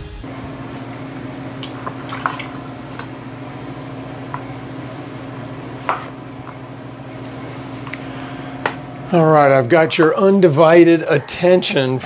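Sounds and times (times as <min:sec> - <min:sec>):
low electrical hum: 0:00.2 - 0:12.0.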